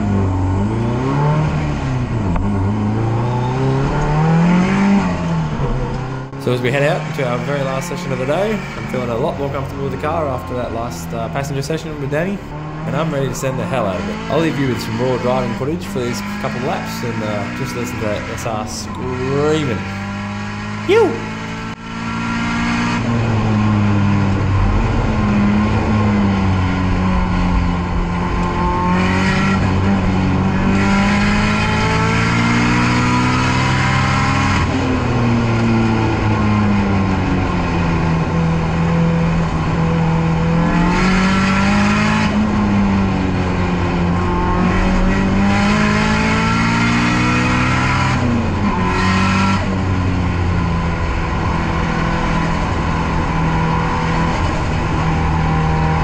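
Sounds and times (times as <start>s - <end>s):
turbocharged car engine racing: 0.0s - 56.0s.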